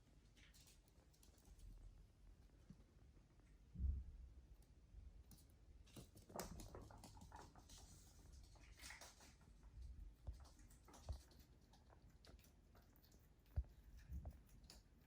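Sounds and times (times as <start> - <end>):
guinea pigs chewing leaves: 0.0 - 3.6, 4.5 - 15.0.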